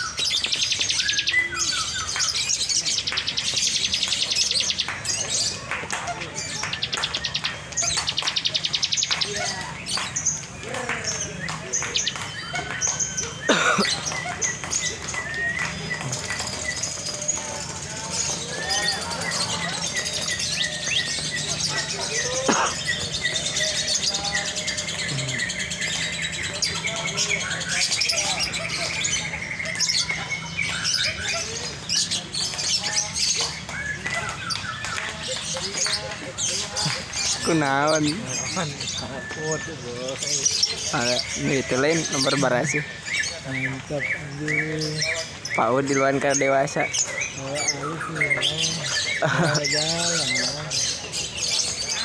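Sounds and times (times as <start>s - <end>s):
bird chatter: 0.0s - 52.0s
lovebirds chirping rapidly: 0.0s - 52.0s.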